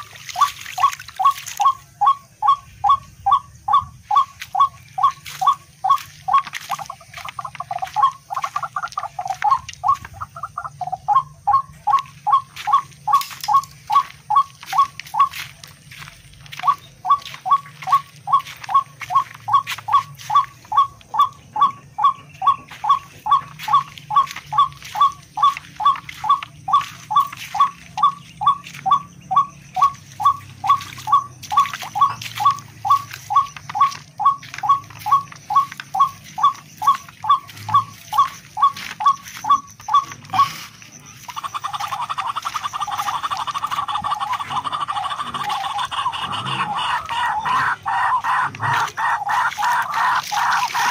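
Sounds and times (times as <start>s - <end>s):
bird calling short sharp notes: 0.0s - 50.9s.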